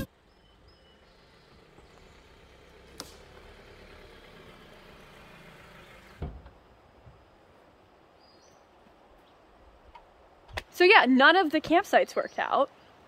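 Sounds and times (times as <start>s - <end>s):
vehicle engine and tyres rumbling: 0.0s - 10.5s.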